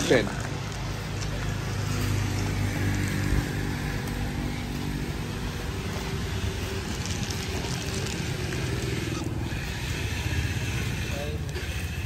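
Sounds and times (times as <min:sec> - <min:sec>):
street market background noise: 0:00.0 - 0:12.0
low motor hum: 0:00.4 - 0:12.0.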